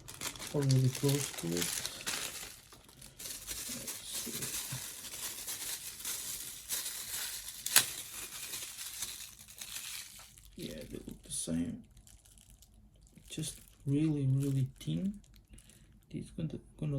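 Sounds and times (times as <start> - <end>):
plastic packaging crinkling: 0.0 - 16.1.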